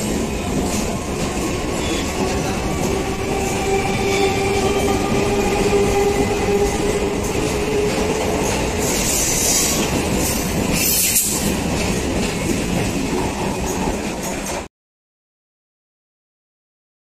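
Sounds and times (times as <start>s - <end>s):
clickety-clack over rail joints: 0.0s - 14.7s
train wheels on rails: 0.0s - 14.7s.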